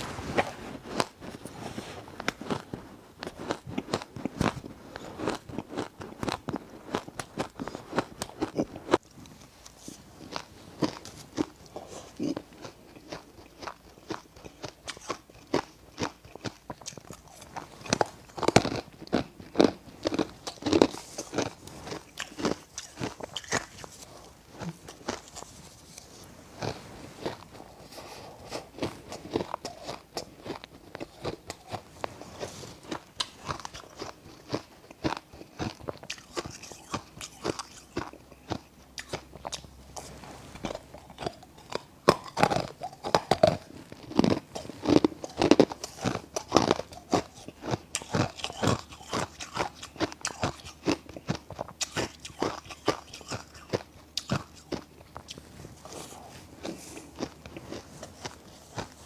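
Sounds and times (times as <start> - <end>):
ice crunching and chewing: 0.0 - 59.0.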